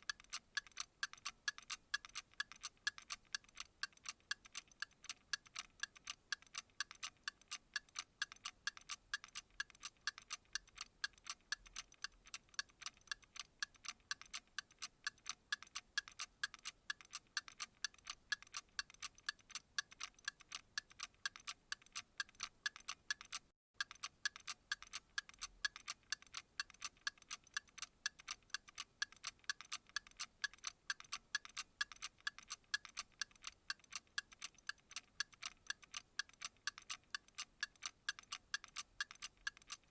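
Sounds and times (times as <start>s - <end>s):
rapid ticking: 0.1s - 39.9s.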